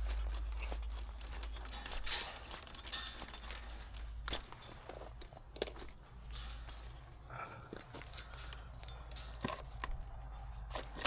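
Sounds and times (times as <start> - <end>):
rustles and light clicks: 0.0 - 11.0.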